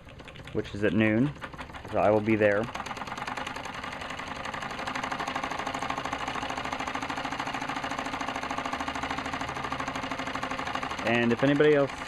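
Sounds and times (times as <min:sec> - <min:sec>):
toy steam engine running: 0:00.0 - 0:12.0.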